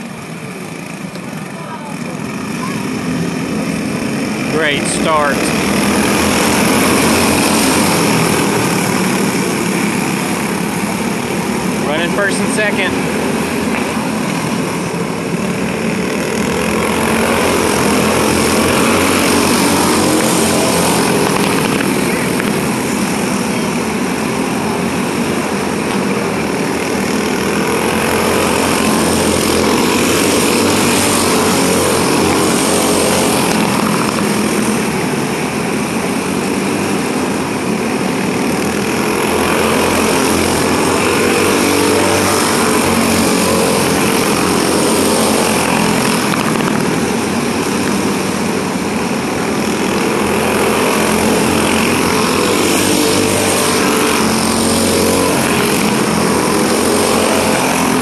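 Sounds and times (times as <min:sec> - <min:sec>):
racing karts engines: 0:00.0 - 0:58.0.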